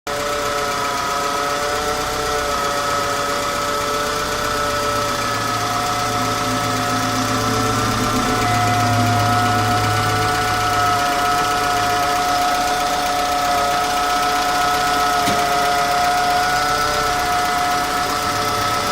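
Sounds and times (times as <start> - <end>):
car engine humming: 0.1 - 18.9
power-steering pump whine: 0.1 - 18.9.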